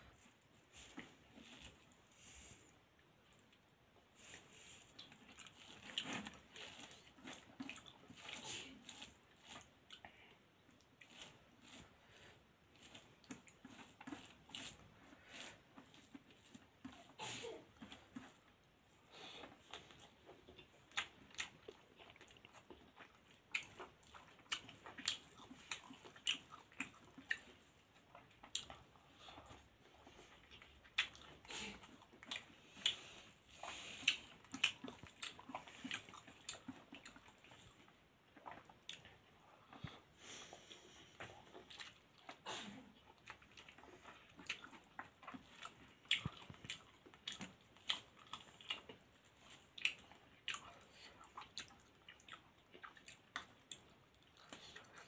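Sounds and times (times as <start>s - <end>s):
chewing and smacking: 0.0s - 55.0s.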